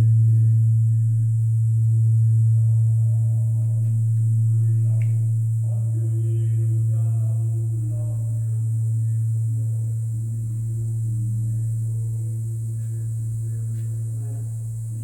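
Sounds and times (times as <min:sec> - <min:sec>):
deep bronze bell hum: 0:00.0 - 0:15.0.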